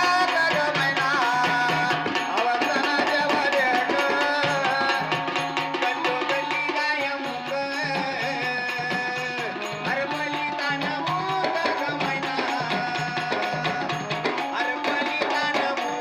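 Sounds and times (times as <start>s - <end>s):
keyboard melody: 0.0s - 16.0s
person singing: 0.0s - 16.0s.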